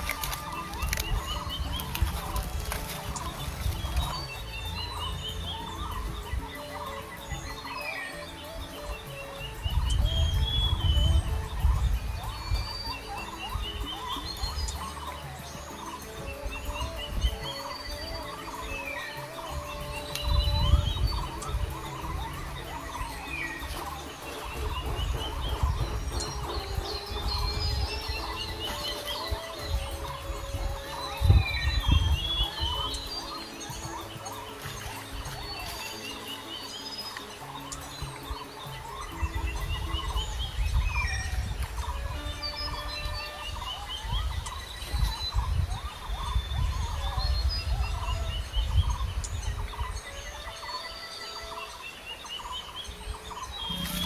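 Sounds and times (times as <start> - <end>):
forest birds chirping: 0.0 - 54.0.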